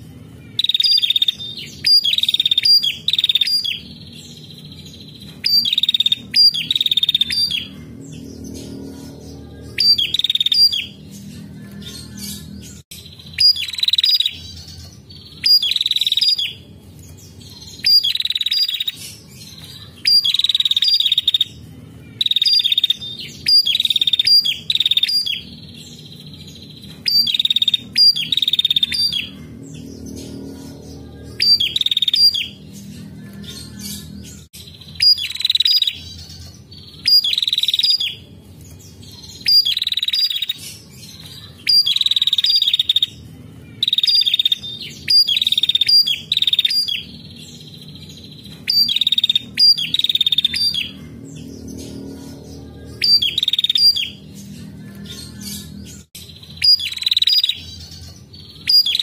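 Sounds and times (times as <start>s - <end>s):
bird high trilling calls: 0.5s - 16.6s, 17.6s - 19.1s, 19.8s - 38.3s, 39.1s - 40.8s, 41.4s - 59.0s.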